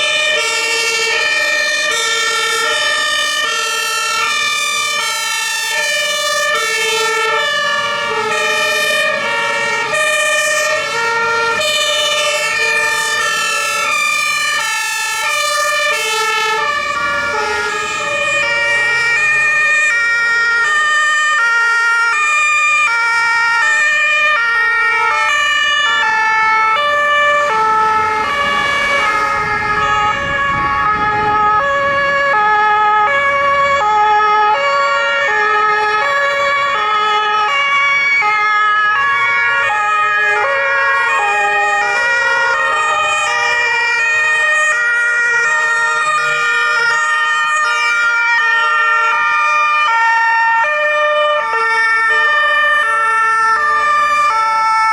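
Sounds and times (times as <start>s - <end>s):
engine and road noise: 0.0s - 54.9s
two-tone sirens: 0.0s - 54.9s.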